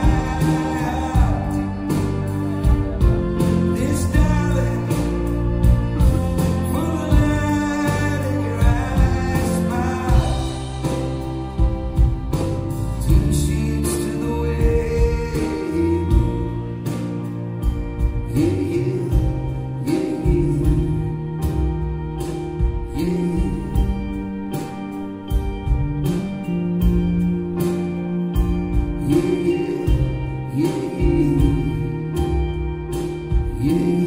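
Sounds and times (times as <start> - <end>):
song with vocals and beat: 0.0 - 34.0.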